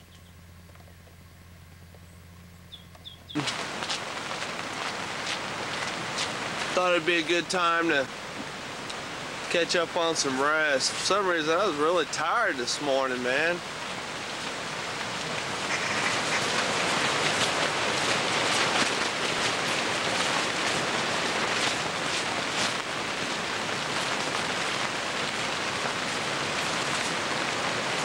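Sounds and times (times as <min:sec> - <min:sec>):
rain falling on a tent: 0:00.0 - 0:28.0.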